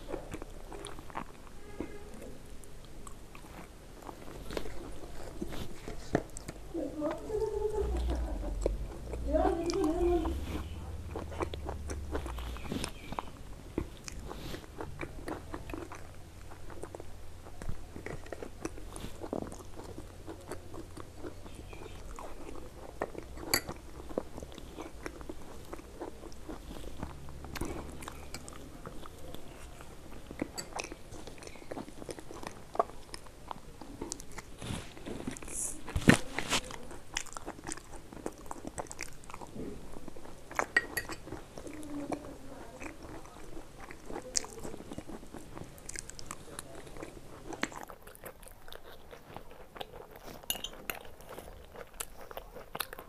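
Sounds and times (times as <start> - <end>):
person crunching food: 0.0 - 6.7, 7.8 - 53.0.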